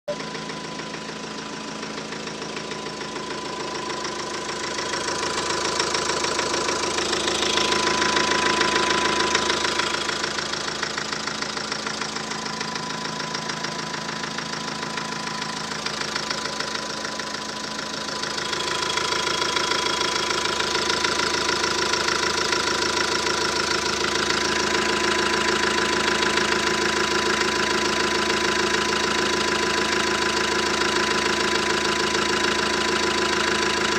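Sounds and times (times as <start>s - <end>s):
engine running: 0.1s - 33.9s
rapid engine knock: 0.1s - 33.9s.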